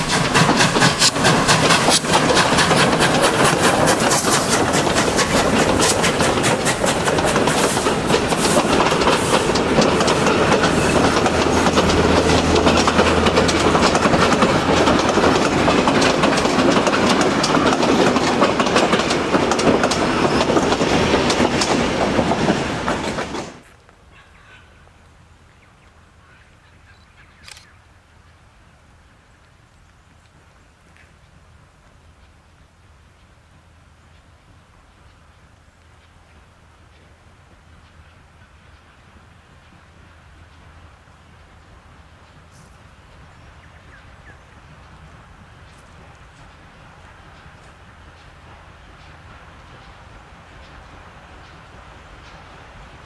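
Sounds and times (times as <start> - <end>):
train wheels clicking over rail joints: 0.0 - 23.8, 33.1 - 53.0.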